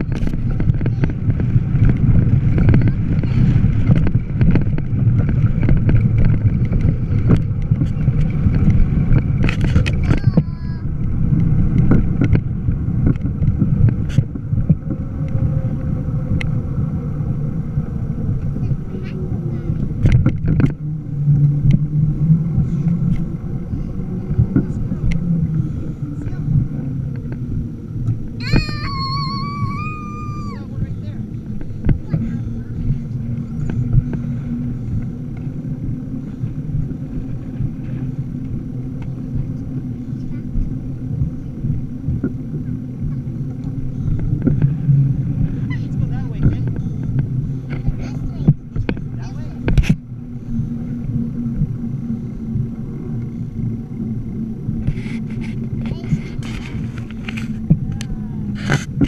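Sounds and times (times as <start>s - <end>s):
road noise: 0.0s - 59.0s
wind rumbling on microphone: 0.0s - 59.0s.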